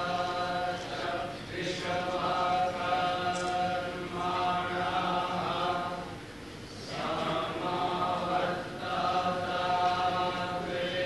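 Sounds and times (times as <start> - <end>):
men chanting together: 0.0 - 6.1, 6.8 - 11.0.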